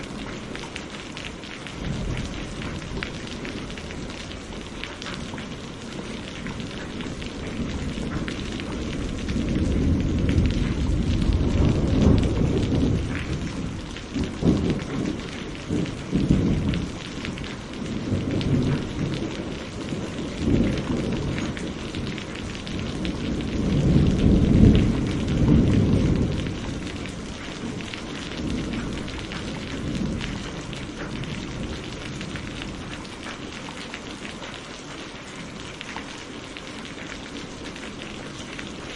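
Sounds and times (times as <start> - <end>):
thunder rumbling: 0.0 - 33.9
heavy rain: 0.0 - 38.9.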